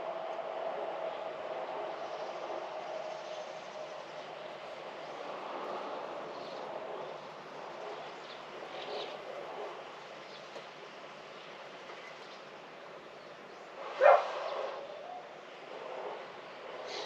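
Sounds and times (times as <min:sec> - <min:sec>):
distant train running past: 0:00.0 - 0:17.0.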